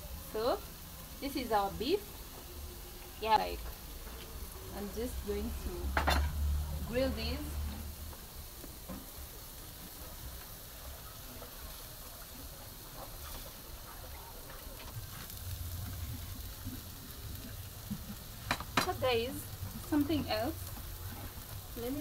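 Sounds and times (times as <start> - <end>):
meat sizzling on a grill: 0.0 - 22.0.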